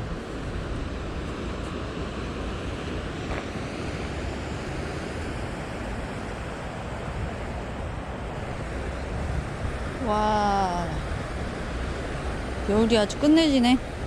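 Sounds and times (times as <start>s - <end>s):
rushing stream: 0.0s - 14.0s
wind buffeting microphone: 0.0s - 14.0s.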